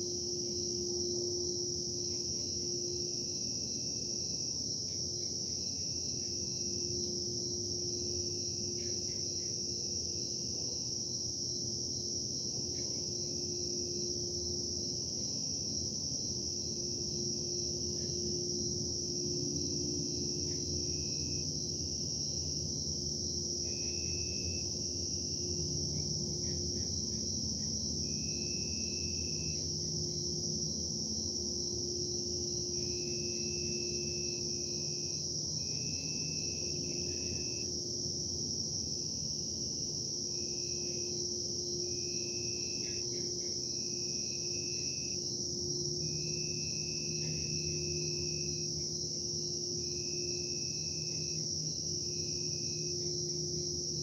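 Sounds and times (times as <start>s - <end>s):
high-pitched insect chorus: 0.0s - 54.0s
lower insect chirps: 0.0s - 54.0s.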